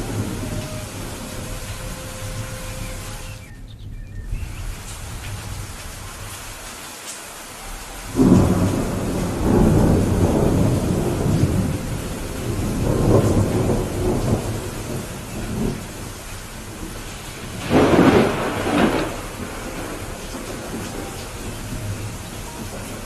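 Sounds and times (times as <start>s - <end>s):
rolling thunder rumble: 0.0s - 6.7s, 7.6s - 23.0s
steady rain falling: 0.0s - 23.0s.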